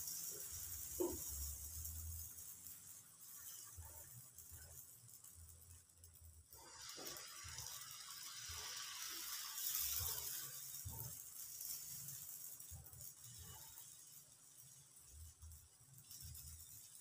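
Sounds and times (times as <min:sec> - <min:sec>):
batter sizzling in frying pan: 0:00.0 - 0:17.0.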